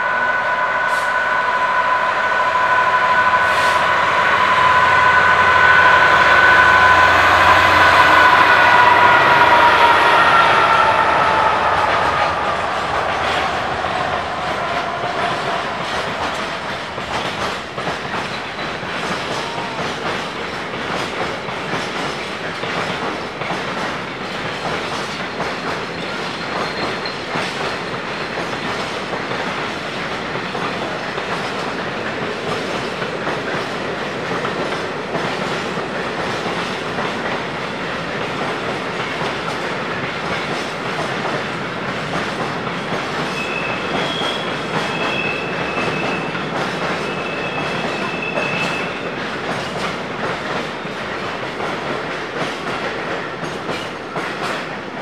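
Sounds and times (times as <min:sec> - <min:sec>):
freight train rumbling over rails: 0:00.0 - 0:55.0.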